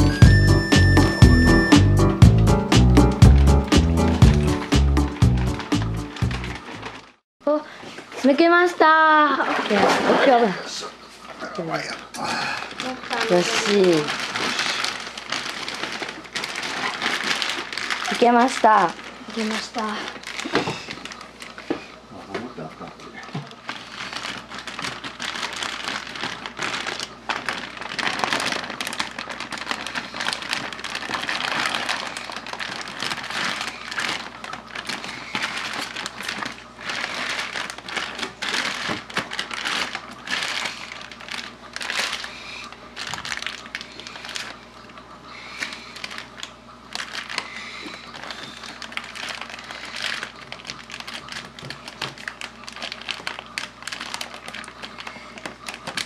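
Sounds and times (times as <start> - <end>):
plastic bag crinkling: 3.2 - 7.2, 11.2 - 56.0.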